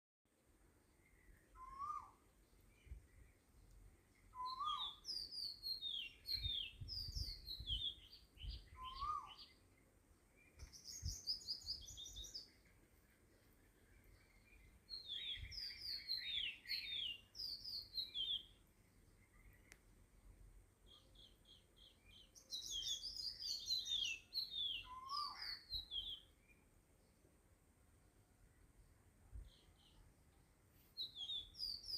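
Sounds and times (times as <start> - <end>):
songbird chirping: 0.3 - 31.9.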